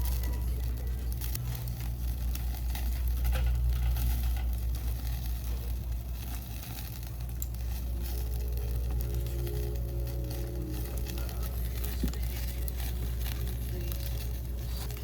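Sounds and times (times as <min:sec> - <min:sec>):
food sizzling with crackles: 0:00.0 - 0:15.0
steady low hum: 0:00.0 - 0:15.0.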